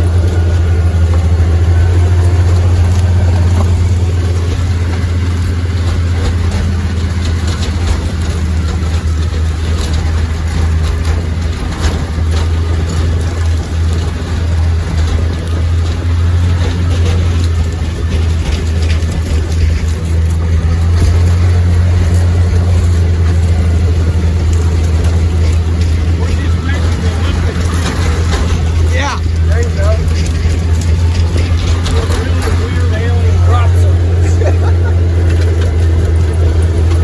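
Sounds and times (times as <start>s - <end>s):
farm machinery engine drone: 0.0s - 37.0s
knocks and rattles: 0.0s - 37.0s.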